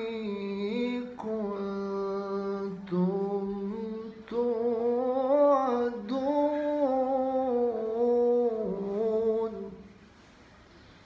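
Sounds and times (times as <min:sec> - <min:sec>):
person reciting melodically: 0:00.0 - 0:09.9.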